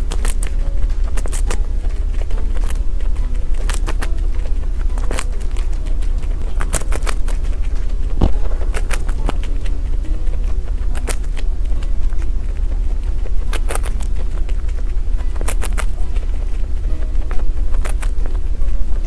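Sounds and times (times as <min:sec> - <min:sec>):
rodent crunching a wafer: 0:00.0 - 0:19.0
steady low rumble: 0:00.0 - 0:19.0.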